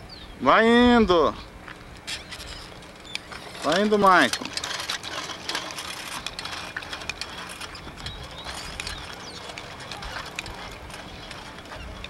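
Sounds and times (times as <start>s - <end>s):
bicycle ticking and rattling: 1.6s - 12.0s.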